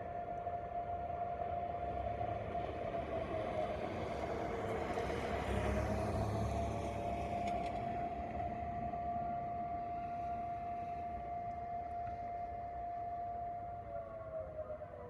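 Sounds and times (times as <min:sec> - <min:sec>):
alert siren: 0:00.0 - 0:15.0.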